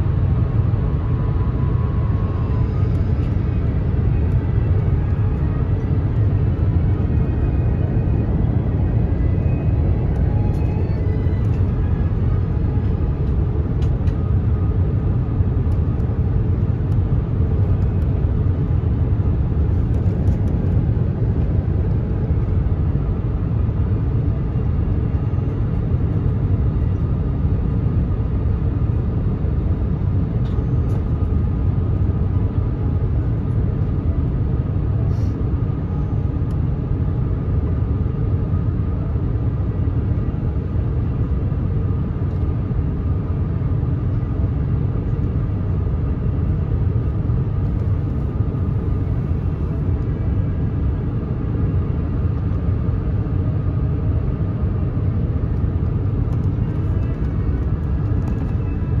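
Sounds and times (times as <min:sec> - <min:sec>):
airliner cabin engine rumble: 0:00.0 - 0:59.0.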